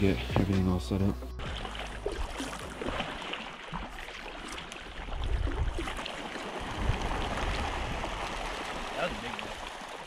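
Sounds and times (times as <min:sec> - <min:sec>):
birds flushing with splashing: 0:01.4 - 0:10.0.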